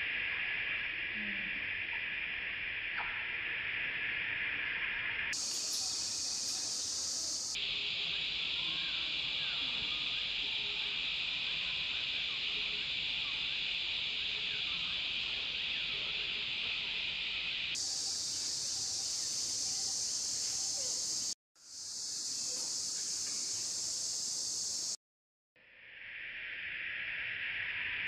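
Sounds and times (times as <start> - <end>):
insects droning: 0.0 - 25.0, 25.7 - 28.0.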